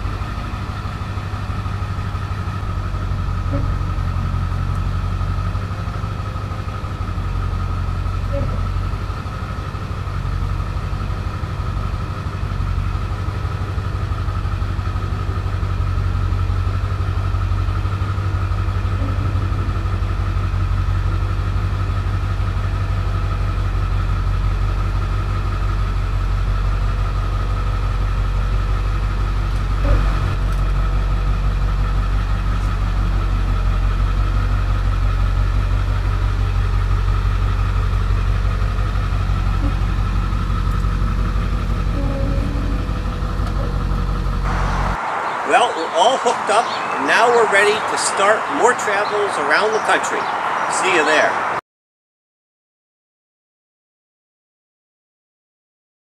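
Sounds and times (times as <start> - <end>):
diesel engine idling: 0.0 - 51.6.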